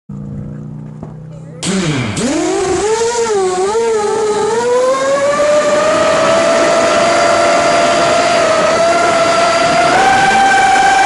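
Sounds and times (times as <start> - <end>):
drone motors whining: 0.1 - 11.0.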